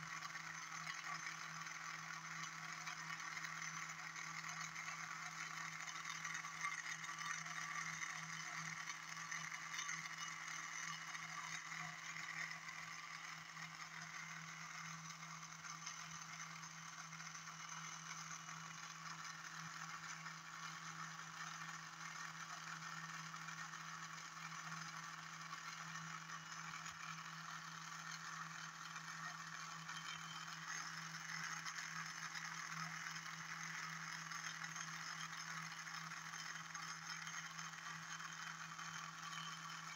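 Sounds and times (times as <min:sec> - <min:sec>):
motor low hum and whir: 0:00.0 - 0:39.9.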